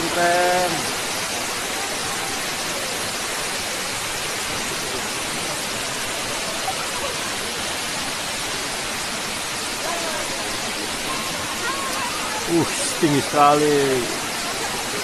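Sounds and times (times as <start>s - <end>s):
waterfall rushing onto rock: 0.0s - 15.0s.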